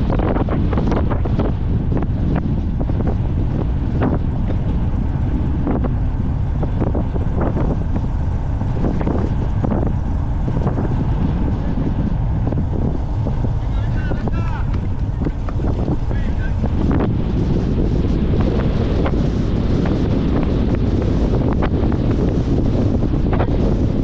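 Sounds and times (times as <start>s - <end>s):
low rumble: 0.0s - 24.0s
wind buffeting microphone: 0.0s - 24.0s.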